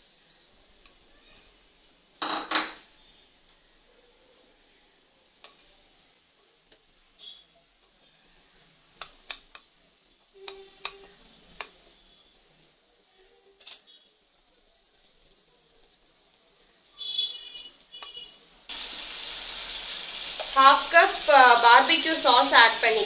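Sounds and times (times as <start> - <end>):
butter sizzling in pan: 0.0 - 23.0
loud frying sizzle: 0.0 - 23.0.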